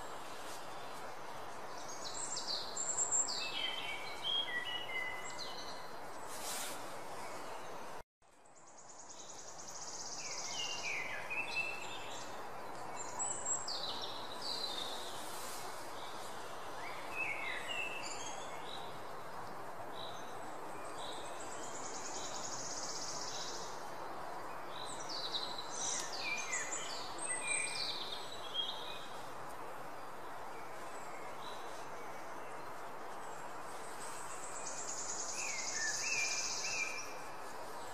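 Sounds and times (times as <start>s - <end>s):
steady hiss: 0.0s - 8.0s, 8.7s - 37.9s.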